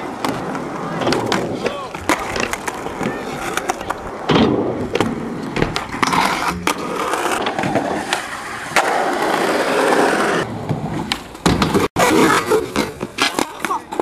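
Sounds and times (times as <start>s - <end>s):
skateboard wheels rolling on concrete: 0.0s - 14.0s
skateboard clacks popping and landing: 0.1s - 9.4s, 10.6s - 14.0s.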